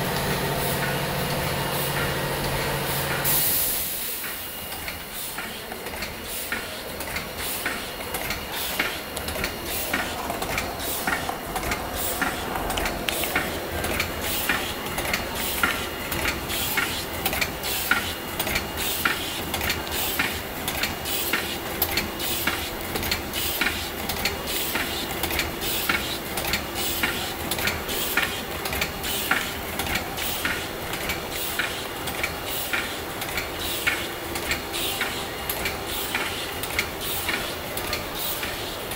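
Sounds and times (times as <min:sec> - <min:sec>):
machine clicking and clacking: 0:00.0 - 0:38.9.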